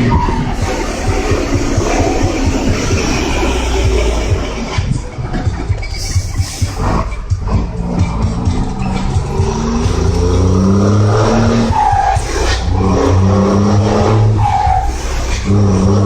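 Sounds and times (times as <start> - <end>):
high squeal: 0.0 - 16.0
vehicle engine revving: 0.0 - 16.0.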